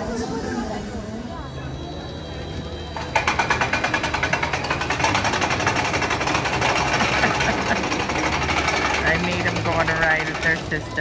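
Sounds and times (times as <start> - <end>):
roller coaster rattling on track: 1.7 - 11.0.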